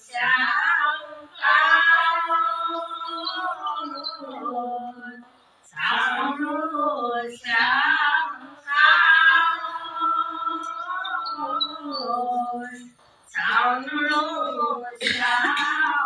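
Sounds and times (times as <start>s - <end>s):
women singing devotional song: 0.0s - 16.0s.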